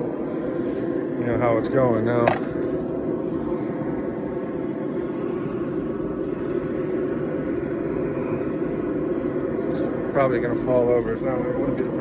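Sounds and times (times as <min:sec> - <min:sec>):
forge rushing hum: 0:00.0 - 0:12.0.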